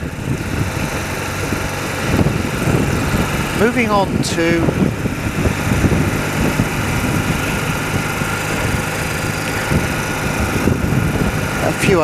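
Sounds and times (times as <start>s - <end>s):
even rushing noise: 0.0s - 12.0s
motorcycle engine running: 0.0s - 12.0s.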